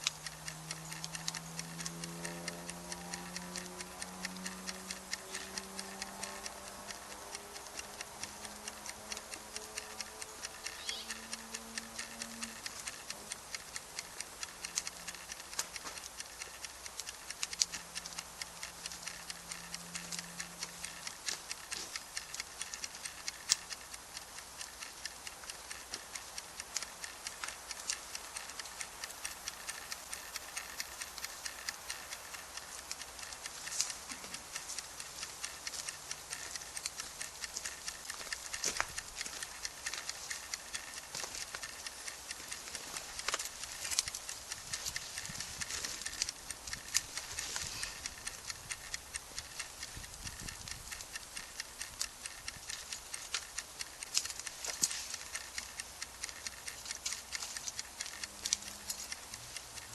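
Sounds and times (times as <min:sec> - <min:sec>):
wood campfire crackling: 0:04.5 - 0:59.9.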